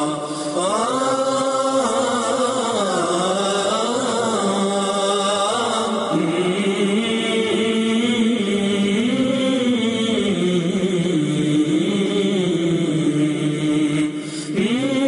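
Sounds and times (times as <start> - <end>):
chanted singing: 0.0 - 15.0.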